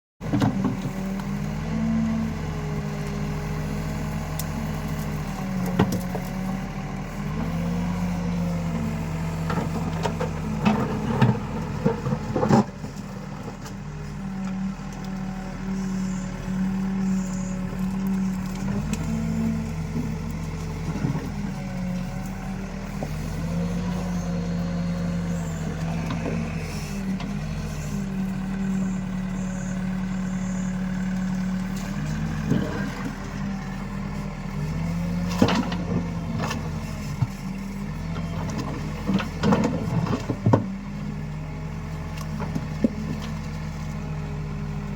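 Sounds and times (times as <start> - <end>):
backhoe diesel engine working: 0.2 - 44.9.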